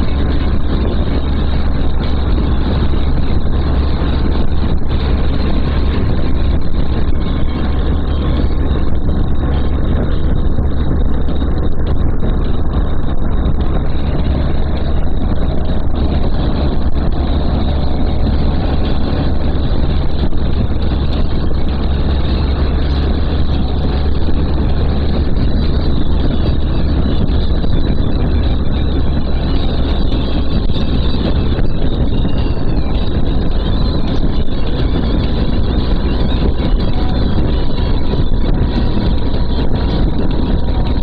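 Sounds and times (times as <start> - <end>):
motorcycle engine rumble: 0.0 - 41.0
wind and road rush: 0.0 - 41.0.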